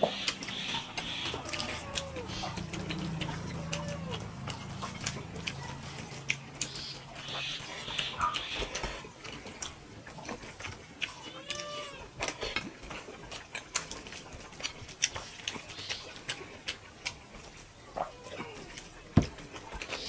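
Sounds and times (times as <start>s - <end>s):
wet chewing and lip smacking: 0.0s - 20.0s.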